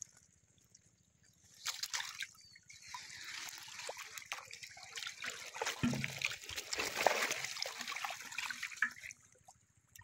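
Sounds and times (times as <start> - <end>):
shallow water splashing: 0.0 - 10.0.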